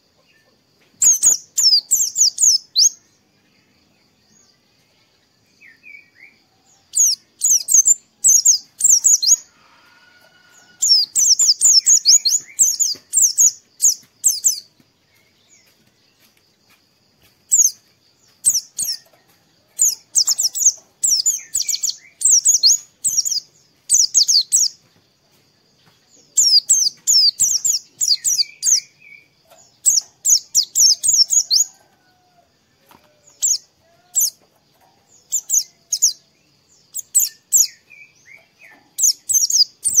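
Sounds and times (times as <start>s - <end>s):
bird twittering chirps: 0.0s - 9.6s, 10.5s - 16.4s, 17.2s - 19.2s, 19.8s - 25.0s, 26.1s - 32.0s, 33.1s - 40.0s.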